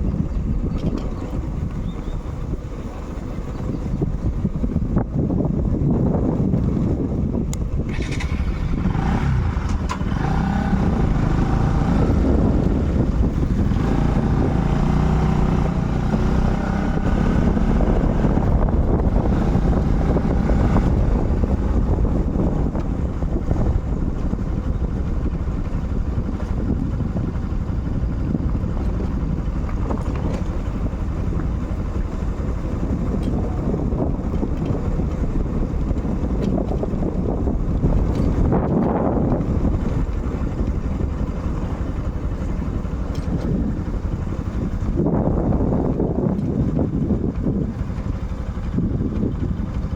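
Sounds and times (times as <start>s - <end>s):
motorcycle engine: 0.0s - 49.9s
wind rush on microphone: 0.0s - 49.9s.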